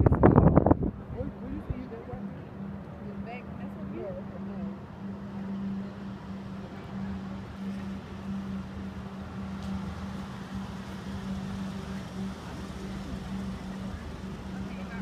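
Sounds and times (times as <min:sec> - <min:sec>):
road traffic: 0:00.0 - 0:15.0
steady low hum: 0:00.0 - 0:15.0.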